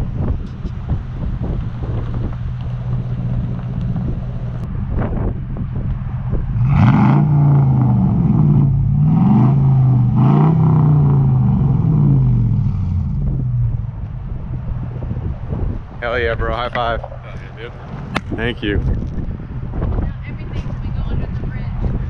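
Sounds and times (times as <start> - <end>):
truck engine idling and revving: 0.0 - 22.0.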